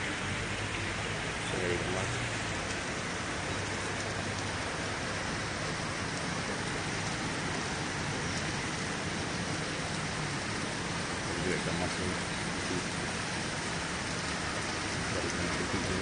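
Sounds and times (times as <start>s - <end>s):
aquarium water bubbling: 0.0s - 16.0s.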